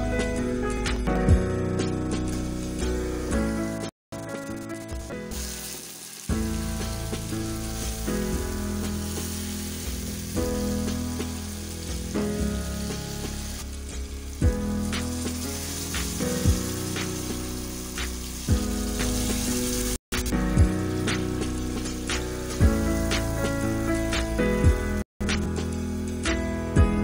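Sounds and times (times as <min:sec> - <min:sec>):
background music: 0:00.0 - 0:27.0
food sizzling in a pot: 0:01.6 - 0:27.0.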